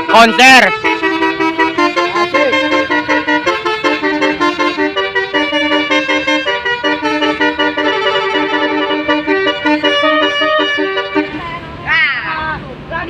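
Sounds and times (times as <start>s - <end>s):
bus horns playing a melody: 0.0s - 11.9s.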